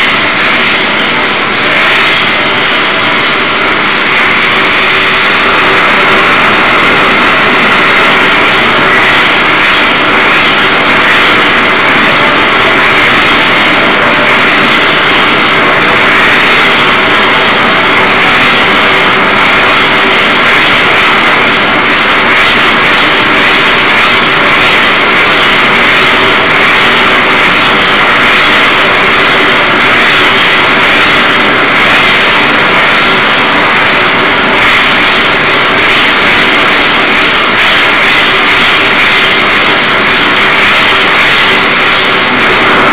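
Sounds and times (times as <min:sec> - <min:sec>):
blowtorch flame hissing: 0:00.0 - 0:42.9.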